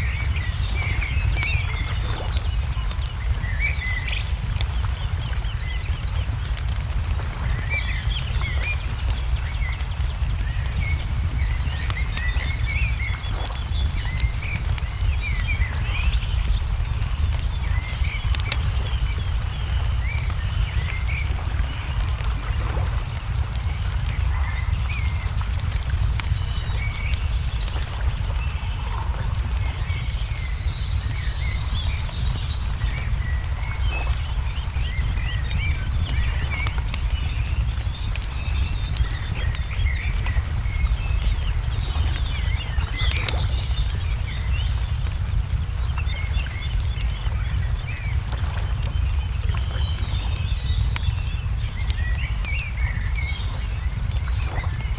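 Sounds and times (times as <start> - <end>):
birds chirping: 0.0 - 54.9
steady low rumble: 0.0 - 54.9
wood fire crackling: 0.0 - 54.9.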